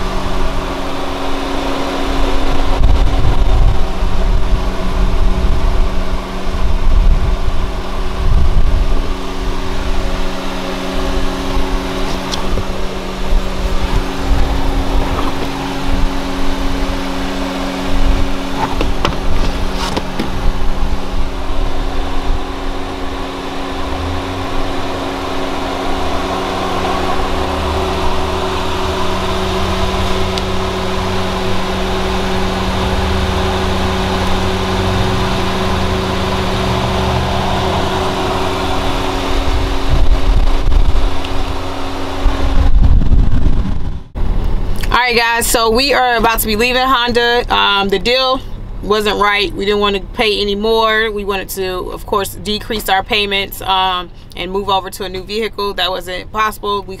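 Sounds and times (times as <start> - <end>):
vehicle engine hum: 0.0 - 57.0.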